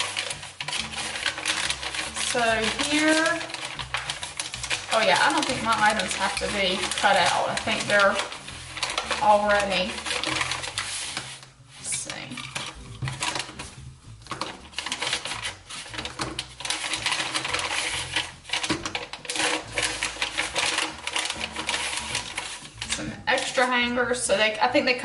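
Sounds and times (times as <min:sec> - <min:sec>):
wooden pieces clicking and clattering: 0:00.0 - 0:23.8
paper packaging rustling: 0:00.0 - 0:24.0.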